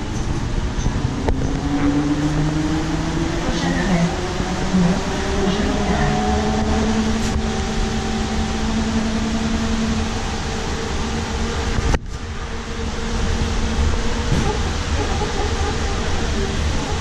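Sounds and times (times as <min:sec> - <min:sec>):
bus road rumble: 0:00.0 - 0:17.0.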